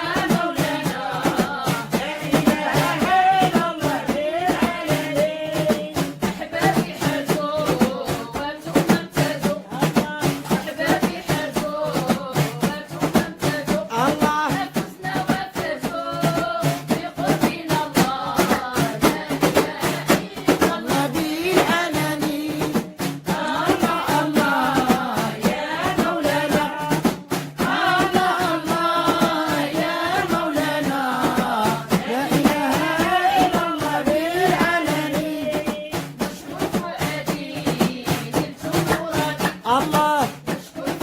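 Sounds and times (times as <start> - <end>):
voices chanting: 0.0 - 12.5, 13.1 - 41.0
drum strokes: 0.0 - 41.0.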